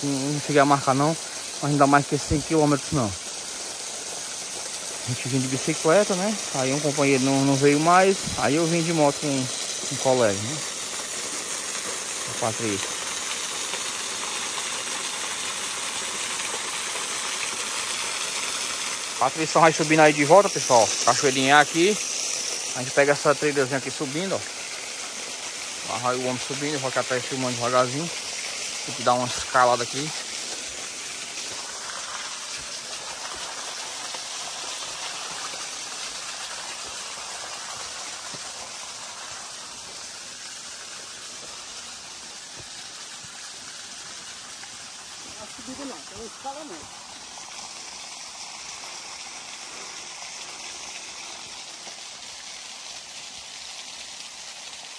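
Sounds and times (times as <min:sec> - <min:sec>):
small waterfall splashing: 0:00.0 - 0:54.9.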